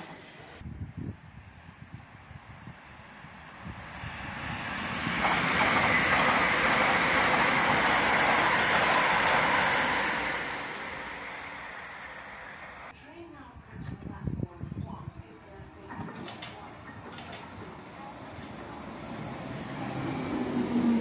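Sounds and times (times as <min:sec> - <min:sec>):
train wheels rushing on rail: 0:00.0 - 0:12.9, 0:15.8 - 0:21.0.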